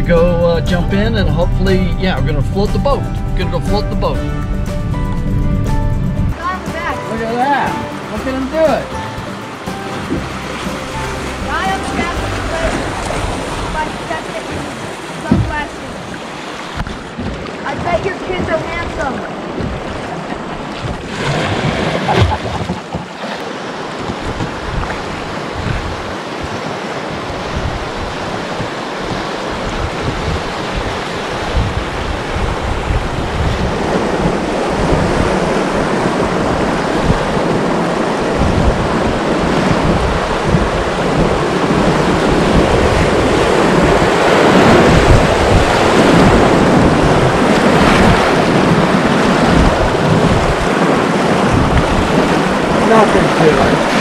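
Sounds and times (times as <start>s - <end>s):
river water rushing: 6.3s - 54.0s
wind buffeting microphone: 9.8s - 54.0s.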